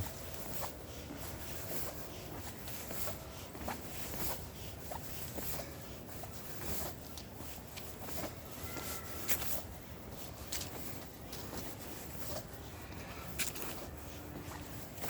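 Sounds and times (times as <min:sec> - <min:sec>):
footsteps on forest trail: 0:00.0 - 0:15.0.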